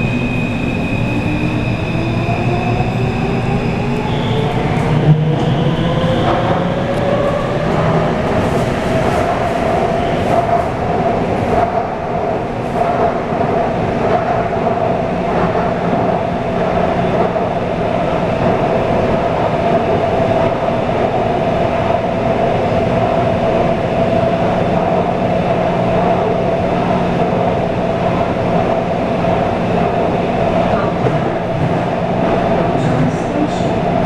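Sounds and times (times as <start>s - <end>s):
train hum: 0.0s - 34.0s
wheels rumbling on rail: 0.0s - 34.0s.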